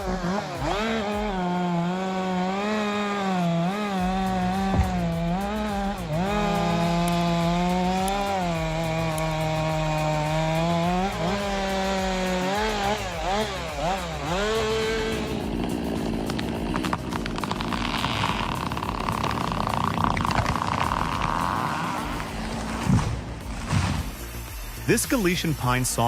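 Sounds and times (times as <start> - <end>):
chainsaw cutting timber: 0.0 - 25.3.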